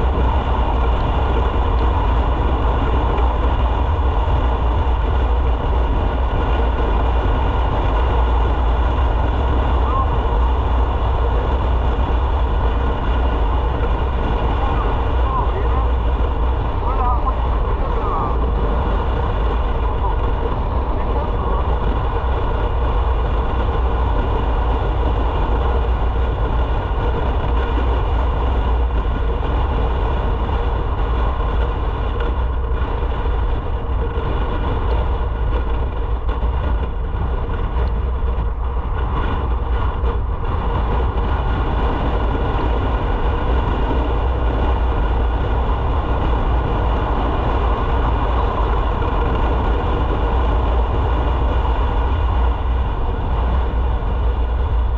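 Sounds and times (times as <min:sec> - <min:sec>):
motorcycle engine running: 0:00.0 - 0:54.9
wind rumble on microphone: 0:00.0 - 0:54.9.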